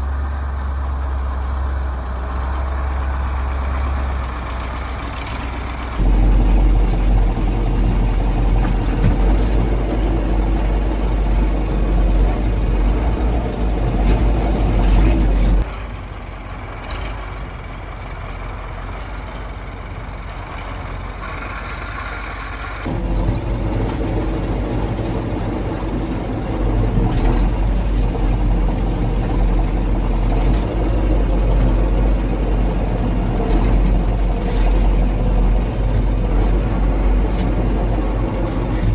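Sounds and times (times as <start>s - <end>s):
truck diesel engine rumbling: 0.0s - 38.9s.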